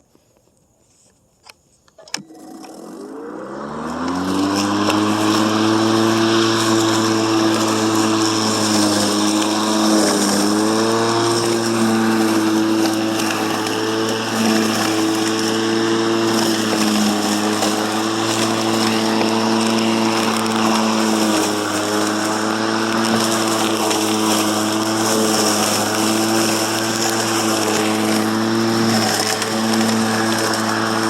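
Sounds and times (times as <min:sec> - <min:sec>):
electric lawn mower humming: 0:02.0 - 0:31.0.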